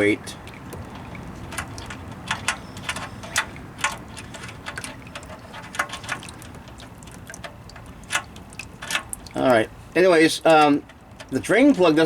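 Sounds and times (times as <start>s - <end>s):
low steady trickle: 0.0s - 12.0s
oil dripping into pan: 0.4s - 11.5s.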